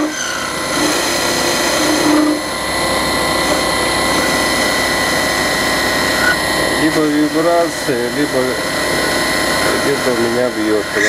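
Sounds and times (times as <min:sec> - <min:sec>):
metal lathe whining: 0:00.0 - 0:11.0.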